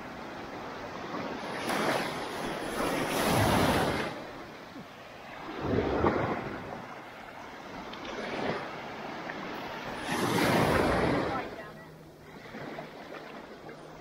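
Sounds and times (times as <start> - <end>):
small waves breaking in shallows: 0.0 - 14.0.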